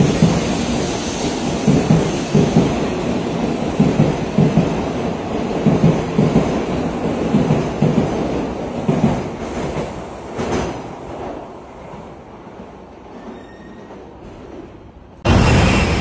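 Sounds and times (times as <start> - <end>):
rush of passing train end: 0.0 - 11.3, 12.6 - 16.0
bullet train rumbling past: 0.0 - 16.0.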